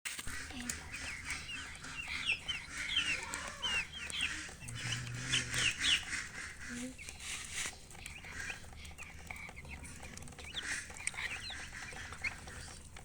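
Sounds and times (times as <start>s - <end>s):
baby chicks peeping: 0.1s - 13.0s
hen clucking: 0.2s - 13.0s.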